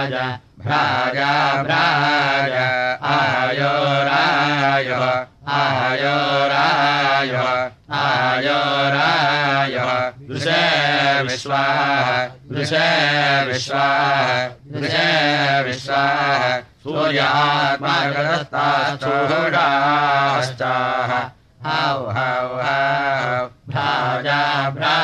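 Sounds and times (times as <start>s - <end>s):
person chanting: 0.0s - 25.0s.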